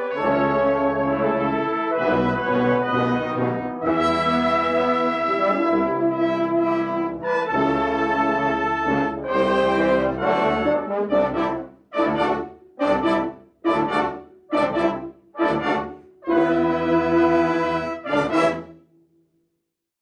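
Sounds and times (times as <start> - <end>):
brass band playing chords: 0.0 - 18.8.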